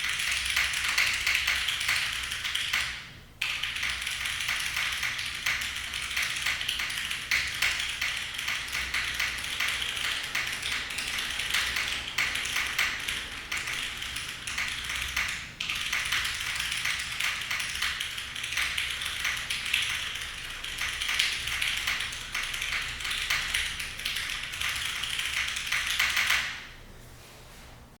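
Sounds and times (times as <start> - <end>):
mechanical keyboard typing: 0.0 - 26.6.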